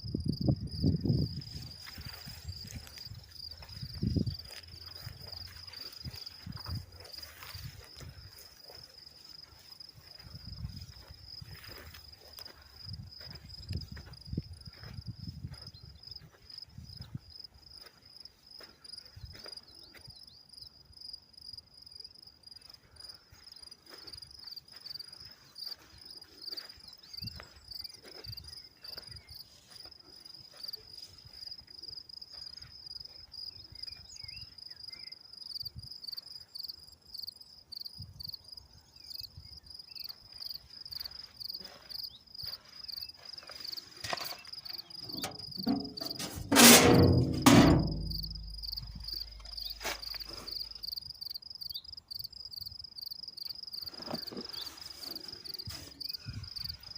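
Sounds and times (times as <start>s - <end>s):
crickets chirring: 0.0s - 56.9s.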